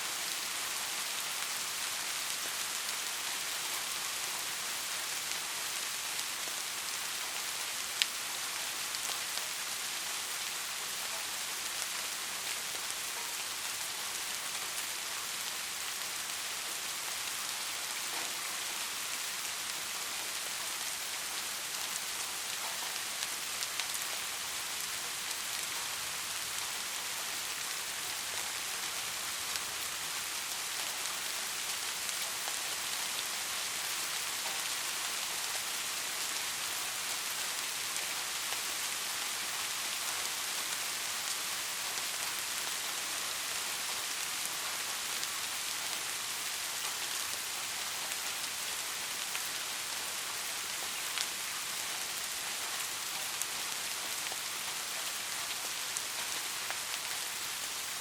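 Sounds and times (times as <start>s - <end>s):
rain on a hard surface: 0.0s - 58.0s.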